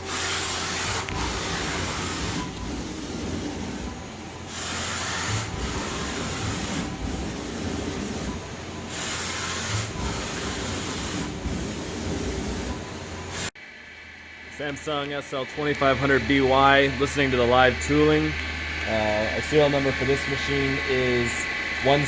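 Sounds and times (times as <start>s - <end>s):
lathe mechanical whir: 0.0s - 22.0s.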